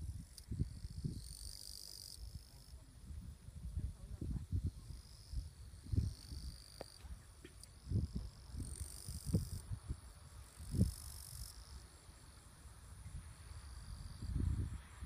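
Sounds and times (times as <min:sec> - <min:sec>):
insects trilling: 0:00.0 - 0:15.0
wind gusting against microphone: 0:02.2 - 0:15.0.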